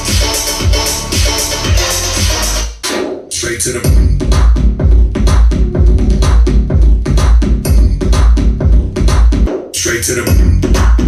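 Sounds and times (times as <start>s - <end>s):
electronic drum beat: 0.0s - 11.0s
heavy bass: 0.0s - 11.0s.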